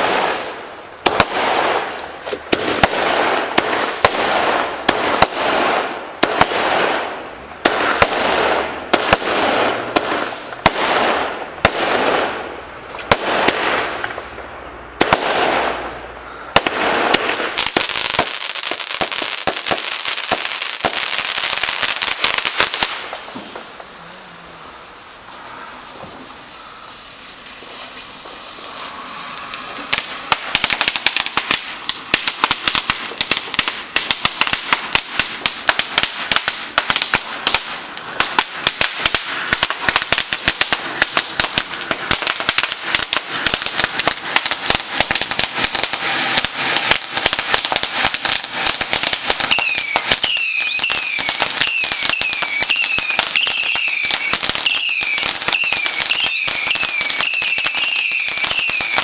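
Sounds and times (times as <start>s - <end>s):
firework pops and bangs: 0.0s - 24.0s, 27.2s - 59.0s
firework hissing: 0.0s - 59.0s
fireworks crackling: 0.0s - 59.0s
whistling fireworks: 0.0s - 59.0s.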